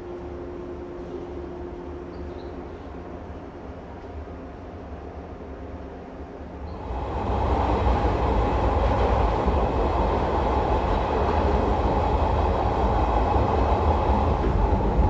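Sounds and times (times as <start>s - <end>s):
electric train rumbling: 0.0s - 15.0s
steady train tones: 0.0s - 15.0s.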